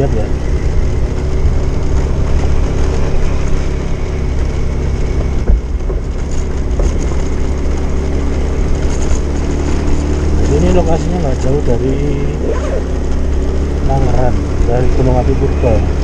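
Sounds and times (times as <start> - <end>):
small motorcycle engine running: 0.0 - 16.0
wind rumbling on microphone: 0.0 - 16.0.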